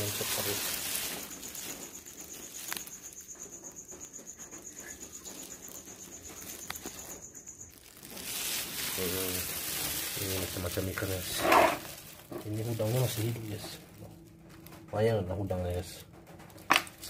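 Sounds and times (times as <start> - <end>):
insect trilling: 0.0 - 15.8.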